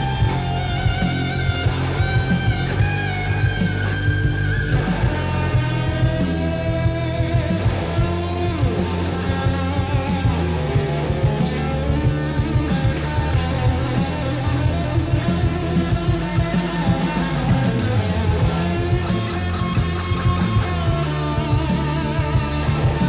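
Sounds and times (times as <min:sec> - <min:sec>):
bass guitar: 0:00.0 - 0:23.0
electric guitar: 0:00.0 - 0:23.0
steady drum beat: 0:00.0 - 0:23.0.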